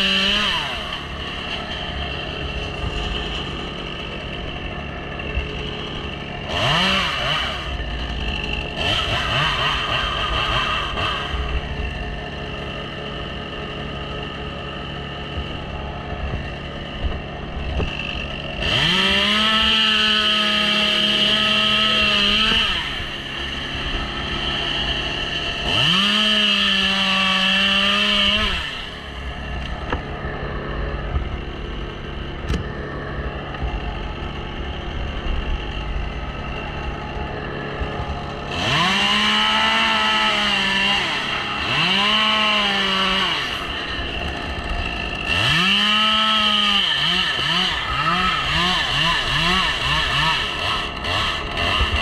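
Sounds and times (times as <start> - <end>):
chainsaw idling: 0.0 - 52.0
chainsaw revving: 0.0 - 52.0.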